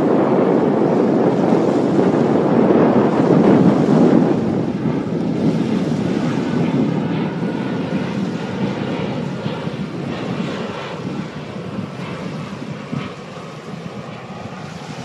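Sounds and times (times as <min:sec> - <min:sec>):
jet airliner engine rumble: 0:00.0 - 0:15.0
wind buffeting microphone: 0:00.0 - 0:15.0.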